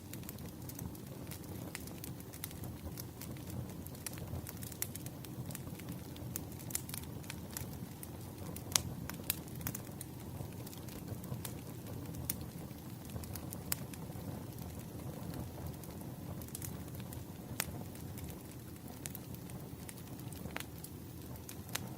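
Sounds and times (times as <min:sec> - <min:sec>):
low rumble of flames: 0:00.0 - 0:21.9
wood crackling and popping: 0:00.0 - 0:21.9.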